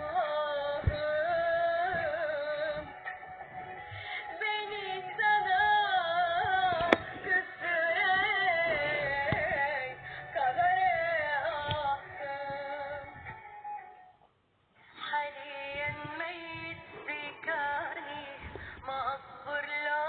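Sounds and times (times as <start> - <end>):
high voice singing: 0.0 - 13.6, 15.0 - 20.0.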